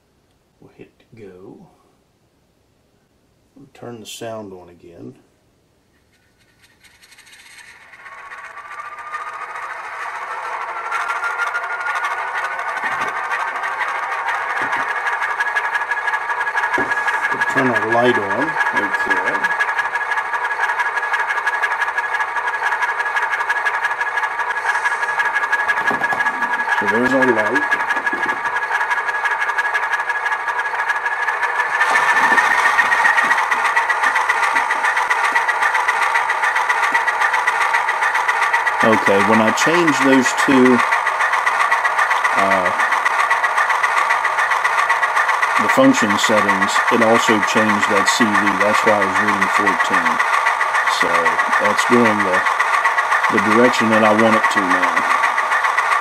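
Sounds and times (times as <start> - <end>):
thin buzzing engine sound from speaker: 6.0 - 38.1, 38.7 - 43.1, 45.1 - 56.0.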